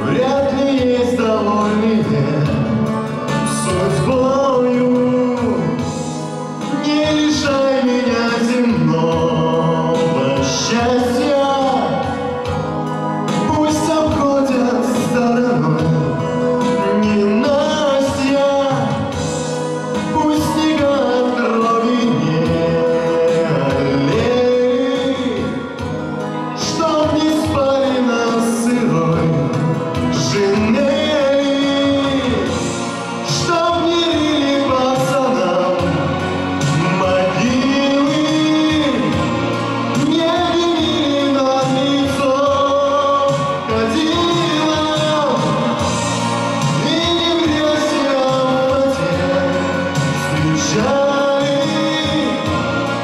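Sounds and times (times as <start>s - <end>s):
backing music: 0.0s - 53.0s
man singing into microphone: 0.0s - 53.0s.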